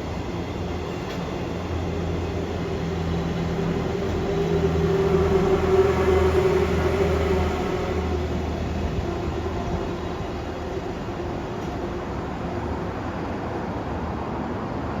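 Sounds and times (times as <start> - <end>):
electric locomotive humming drone: 0.0 - 15.0.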